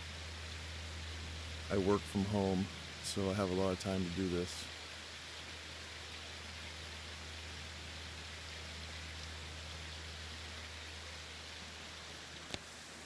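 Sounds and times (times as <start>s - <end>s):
low hum: 0.0s - 12.6s
background hiss: 0.0s - 13.0s.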